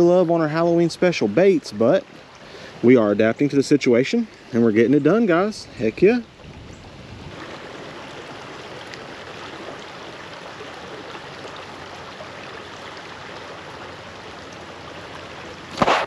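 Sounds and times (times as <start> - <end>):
creek flowing over riffle: 0.0 - 16.0.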